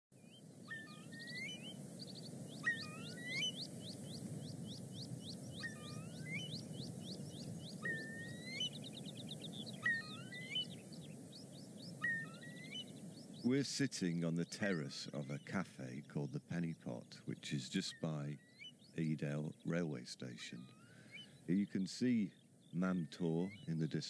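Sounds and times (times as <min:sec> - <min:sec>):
bird trill: 0:00.2 - 0:24.0
low background noise: 0:00.2 - 0:24.0
small birds chirping and whistling: 0:00.2 - 0:24.0.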